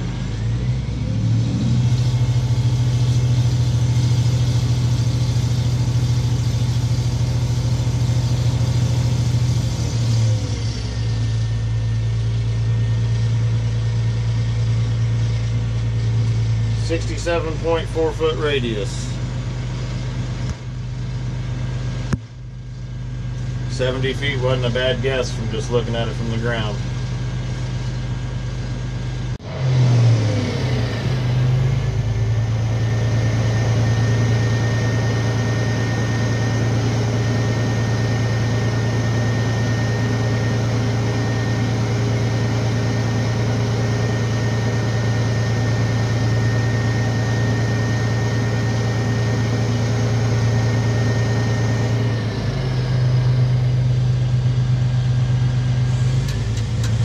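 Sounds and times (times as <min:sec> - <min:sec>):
diesel engine revving: 0:00.0 - 0:57.0
high whine: 0:00.0 - 0:57.0.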